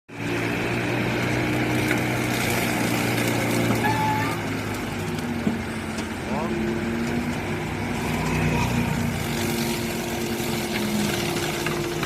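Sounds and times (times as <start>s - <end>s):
excavator engine running: 0.1s - 12.0s
flail mower mechanical noise: 0.1s - 12.0s.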